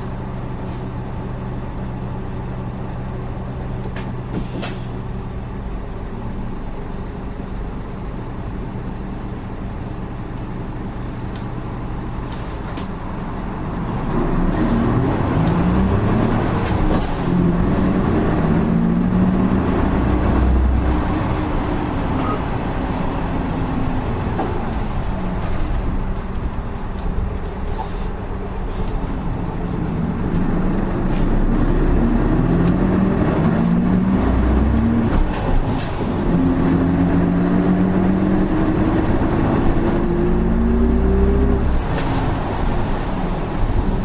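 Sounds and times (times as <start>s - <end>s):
bus diesel engine accelerating: 0.0s - 44.0s.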